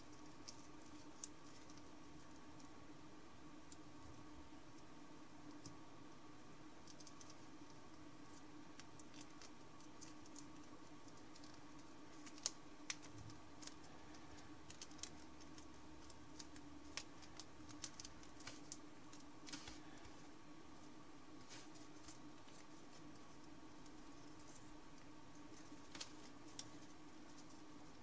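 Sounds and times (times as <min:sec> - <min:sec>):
paper creasing clicks and crackles: 0:00.0 - 0:02.7, 0:06.8 - 0:20.2, 0:20.8 - 0:28.0
steady low hum: 0:00.0 - 0:28.0.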